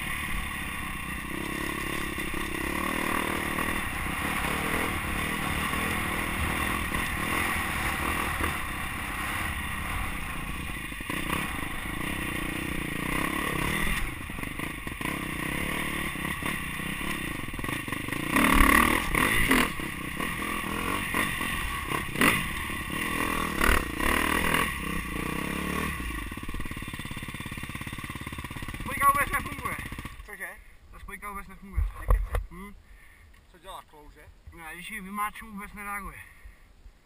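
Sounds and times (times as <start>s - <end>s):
bike rattling over bumps: 0.0s - 30.4s
motocross bike engine revving: 0.0s - 30.4s.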